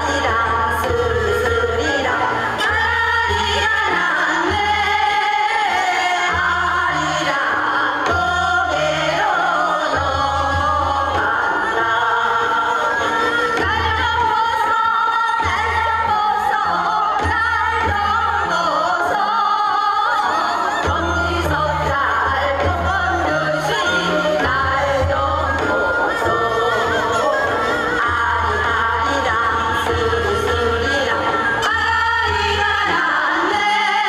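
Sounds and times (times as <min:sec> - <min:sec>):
group of women singing: 0:00.0 - 0:34.0
instrumental accompaniment: 0:00.0 - 0:34.0.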